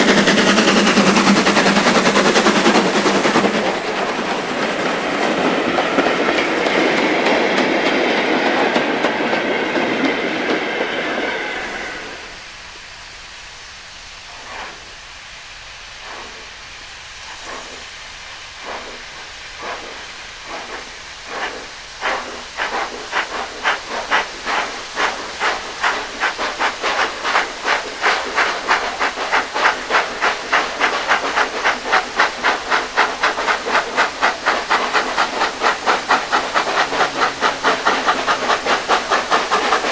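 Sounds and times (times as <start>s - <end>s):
steam locomotive hissing steam: 0.0s - 39.9s.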